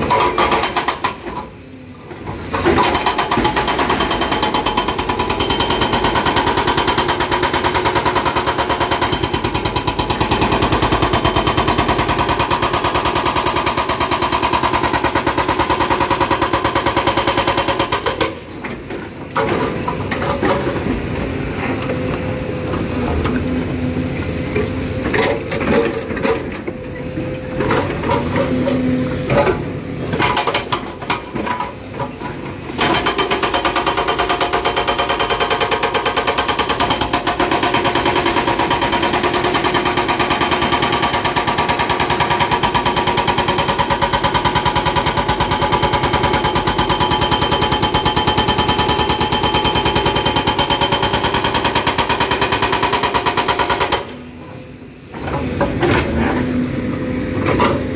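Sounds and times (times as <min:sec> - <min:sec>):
hydraulic breaker hammering rock: 0:00.0 - 0:01.4, 0:02.4 - 0:21.1, 0:27.5 - 0:54.3.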